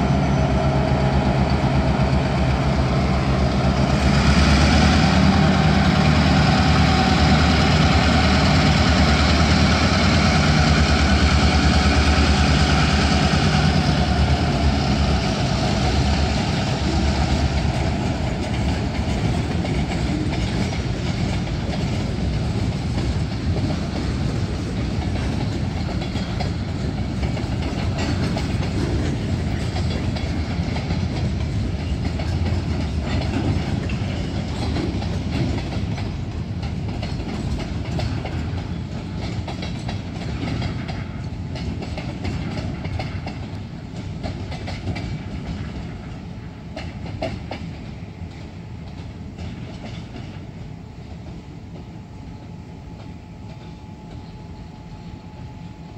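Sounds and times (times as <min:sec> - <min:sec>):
rumble of steel wheels on rail: 0:00.0 - 0:55.9
wheels clunking over rail joints: 0:00.7 - 0:51.9.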